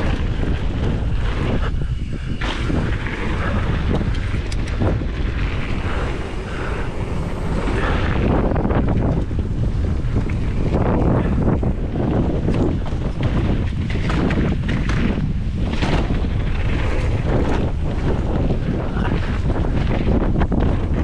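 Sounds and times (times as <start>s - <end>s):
mountain bike rolling on trail: 0.0s - 21.0s
wind buffeting microphone: 0.0s - 21.0s.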